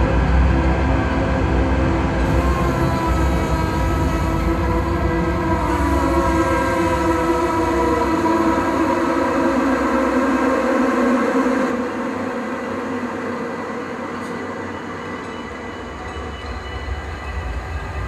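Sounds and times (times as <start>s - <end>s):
drone music with sustained tones: 0.0s - 18.0s.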